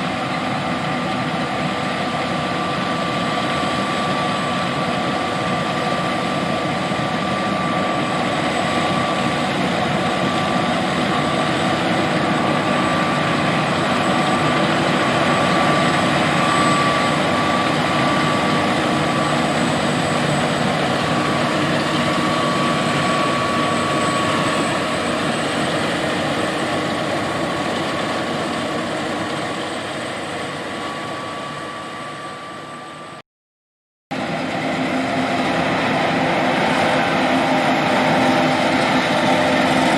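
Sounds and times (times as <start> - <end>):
combine harvester running: 0.0 - 33.2, 34.1 - 39.9.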